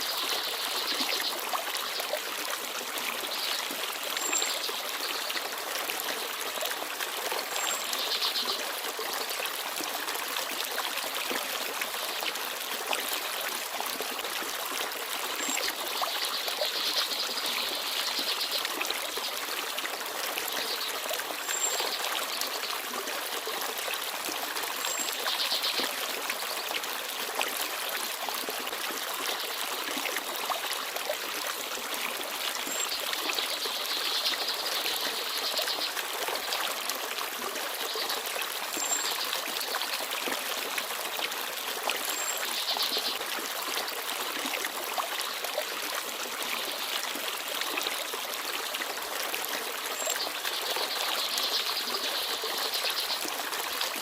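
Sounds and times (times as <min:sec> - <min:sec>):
stream babbling and trickling: 0:00.0 - 0:54.0.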